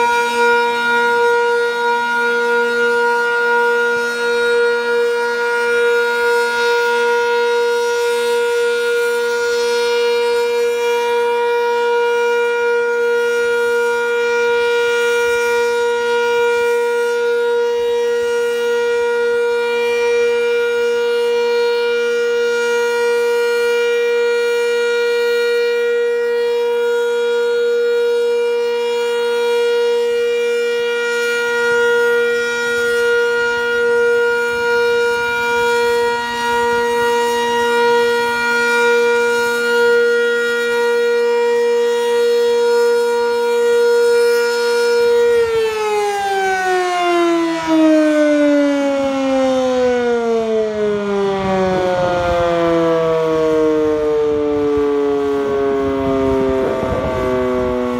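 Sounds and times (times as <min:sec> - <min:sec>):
warning siren steady tone: 0:00.0 - 0:57.9.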